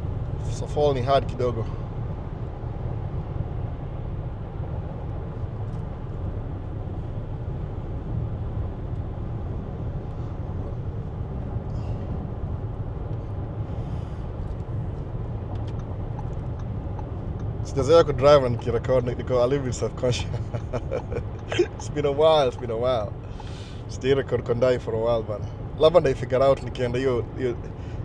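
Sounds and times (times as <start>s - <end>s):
road and tyre rumble: 0.0s - 28.0s.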